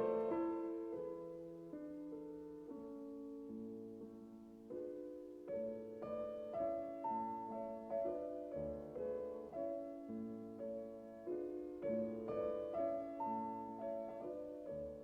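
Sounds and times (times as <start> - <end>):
slow classical piano piece: 0.0 - 15.0.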